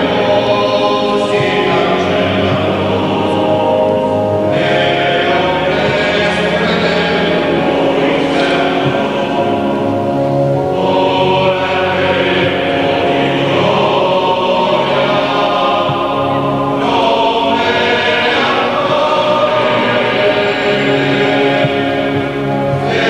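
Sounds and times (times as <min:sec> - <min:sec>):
mixed choir singing: 0:00.0 - 0:23.0.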